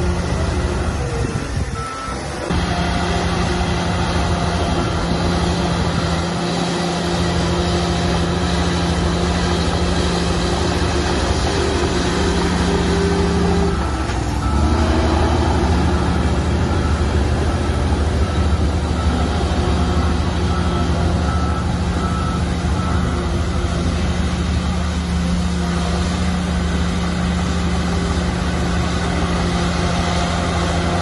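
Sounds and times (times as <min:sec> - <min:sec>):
heavy diesel engines running: 0:00.0 - 0:31.0.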